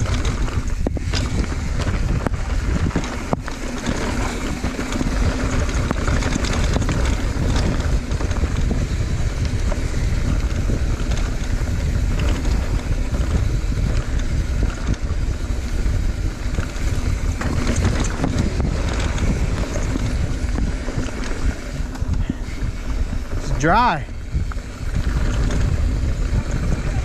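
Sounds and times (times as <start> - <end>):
clicks and rattles: 0.0 - 22.4
wind buffeting microphone: 0.0 - 27.0.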